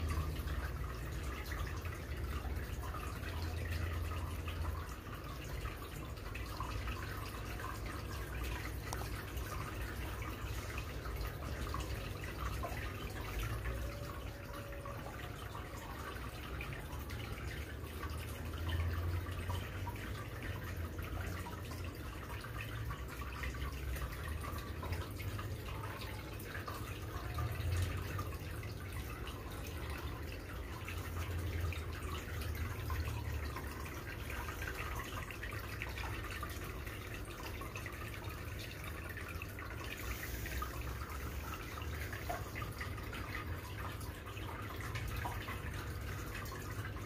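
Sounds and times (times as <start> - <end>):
aquarium water bubbling: 0.0 - 47.0.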